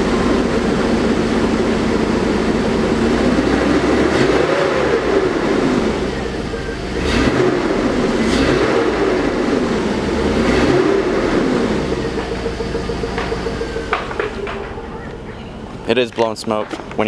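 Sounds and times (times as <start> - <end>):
car engine revving and idling: 0.0 - 15.9.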